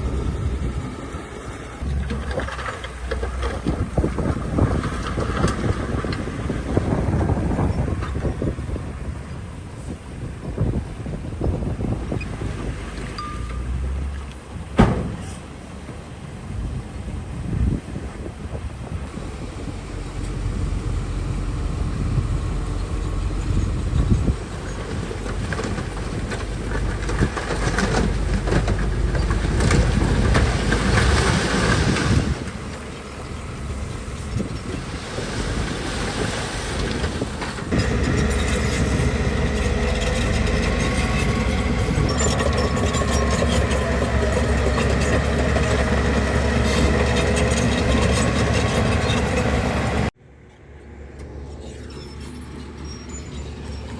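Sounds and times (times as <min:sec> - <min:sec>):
bulldozer engine working: 0:00.0 - 0:53.9.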